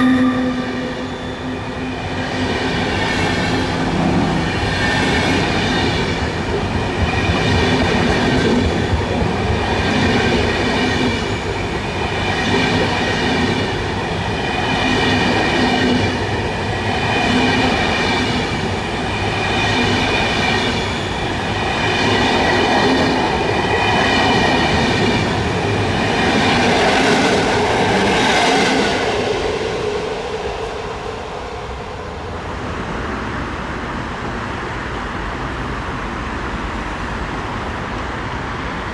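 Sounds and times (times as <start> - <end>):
train running: 0.0 - 38.9.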